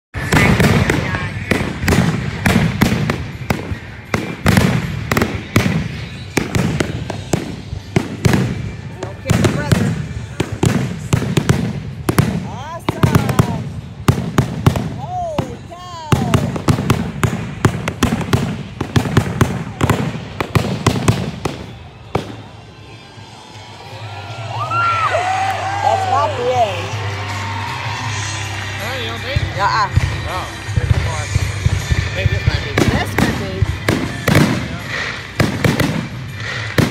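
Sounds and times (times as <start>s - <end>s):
fireworks bangs and cracks: 0.2s - 23.0s, 25.2s - 36.9s.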